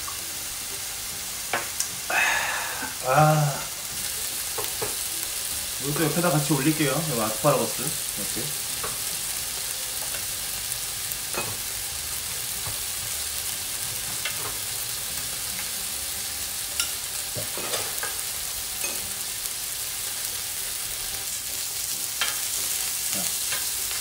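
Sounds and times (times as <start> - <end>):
meat sizzling on grill plate: 0.0 - 24.0.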